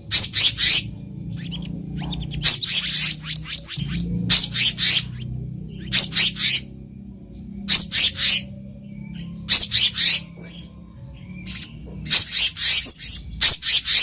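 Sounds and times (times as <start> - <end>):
bird calling high sharp notes: 0.0 - 6.8, 7.7 - 10.7, 11.4 - 14.0.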